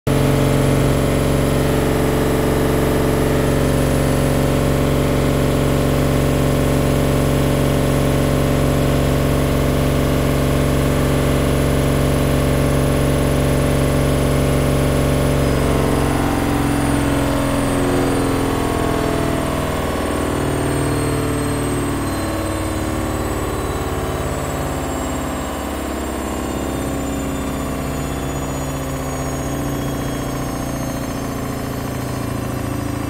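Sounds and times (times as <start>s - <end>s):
washing machine spin whine: 0.1s - 33.0s.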